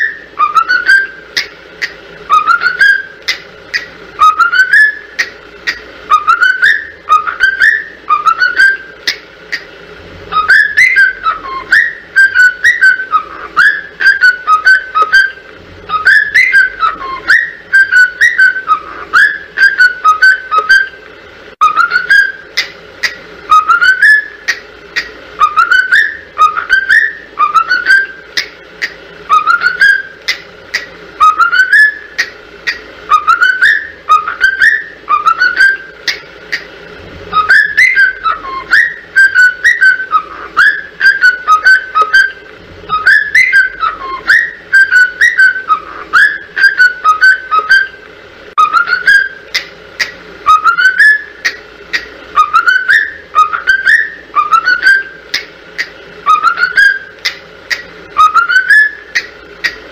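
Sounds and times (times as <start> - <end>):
cockatiel whistling: 0.0 - 9.2, 10.3 - 21.0, 21.6 - 36.7, 37.3 - 59.8.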